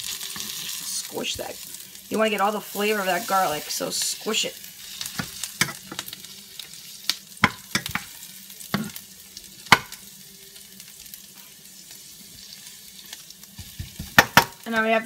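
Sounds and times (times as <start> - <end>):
onion and garlic sizzling in butter: 0.0 - 15.0.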